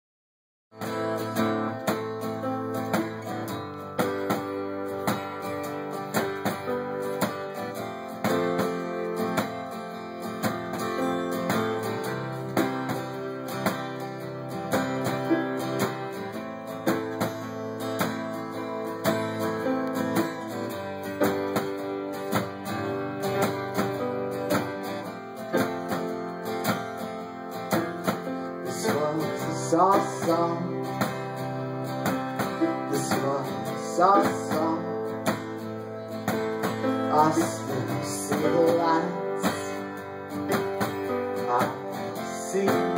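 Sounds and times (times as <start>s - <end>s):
acoustic guitar strumming: 0.8s - 42.9s
electric keyboard chords: 0.8s - 42.9s.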